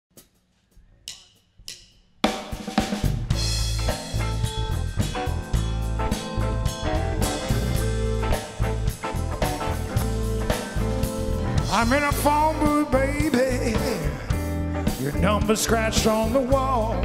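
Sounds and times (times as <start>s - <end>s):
drum kit: 0.1s - 17.0s
electric bass: 3.1s - 17.0s
electric guitar: 3.3s - 17.0s
keyboard: 3.3s - 17.0s.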